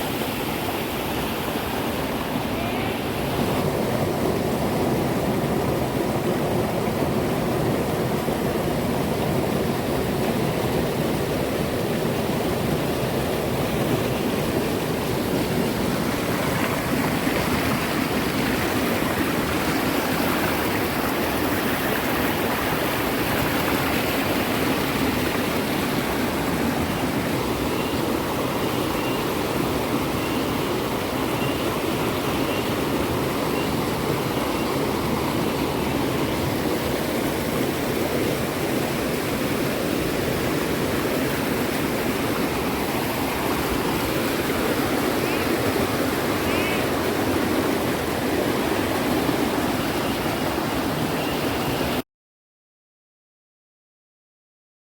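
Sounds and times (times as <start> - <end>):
stream flowing over rocks: 0.0 - 52.0.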